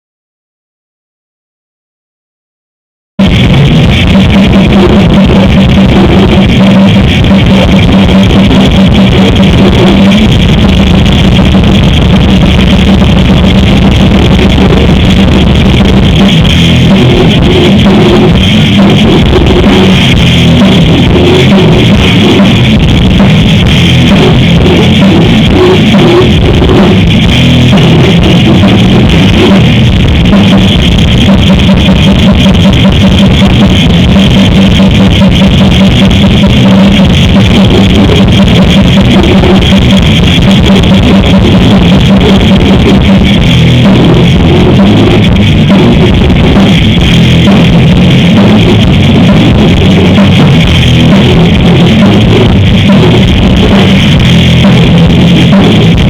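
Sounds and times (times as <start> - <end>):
extreme metal band playing: 3.2 - 56.0
fast dense drumming: 3.2 - 56.0.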